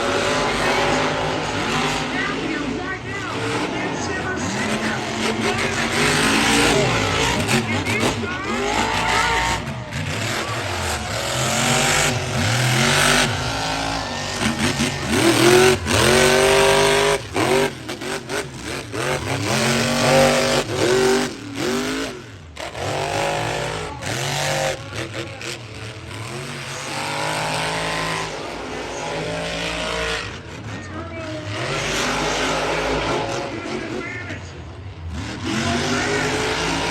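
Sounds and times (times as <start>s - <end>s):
monster truck engines revving: 0.0s - 36.9s.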